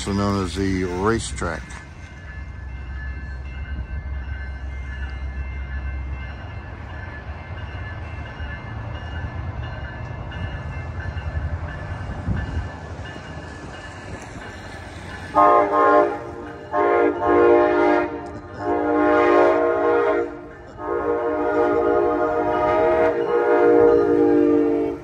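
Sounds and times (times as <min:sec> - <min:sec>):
distant train rumble: 0:00.0 - 0:25.0.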